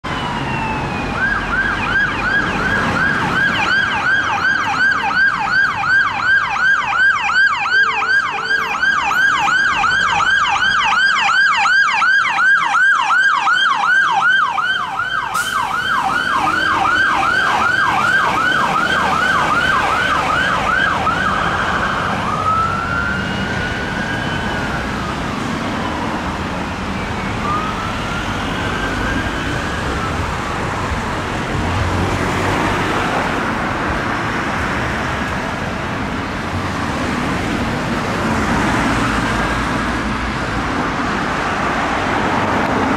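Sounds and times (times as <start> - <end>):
fire engine siren: 0.0 - 42.9.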